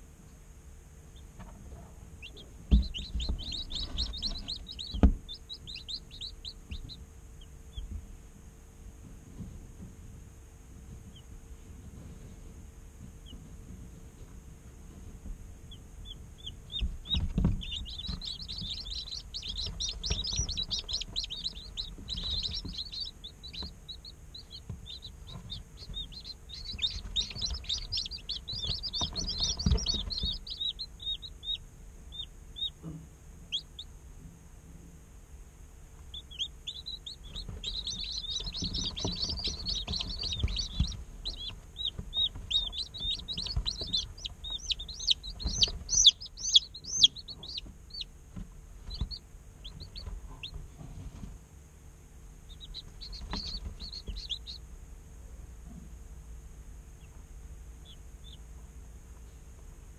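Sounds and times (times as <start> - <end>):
chicks peeping: 1.1 - 8.3, 10.8 - 34.8, 35.8 - 51.4, 52.2 - 55.9, 56.8 - 59.9.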